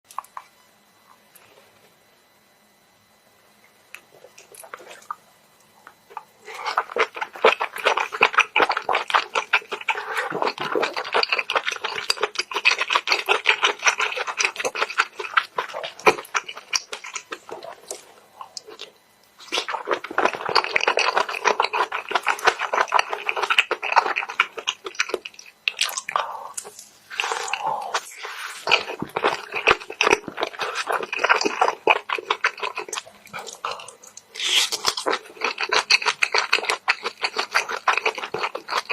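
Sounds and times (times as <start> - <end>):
wet chewing and crunching: 3.9 - 38.9.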